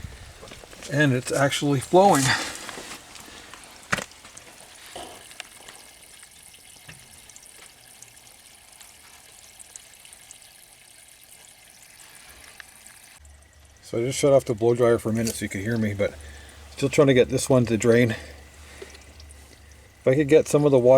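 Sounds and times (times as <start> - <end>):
water trickling: 0.0 - 20.9.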